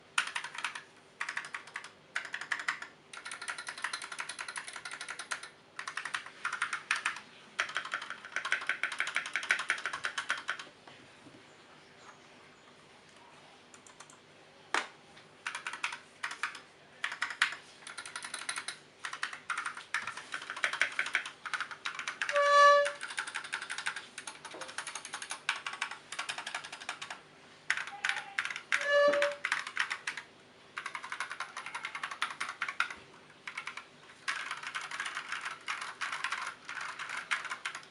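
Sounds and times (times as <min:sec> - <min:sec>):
mechanical keyboard typing: 0:00.2 - 0:10.7, 0:13.7 - 0:14.2, 0:15.4 - 0:37.9.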